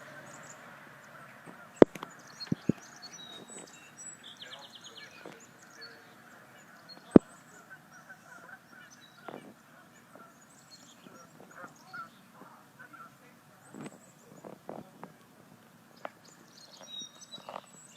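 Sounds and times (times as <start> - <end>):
bird calls: 0.0 - 17.9
bird trill: 0.0 - 17.9.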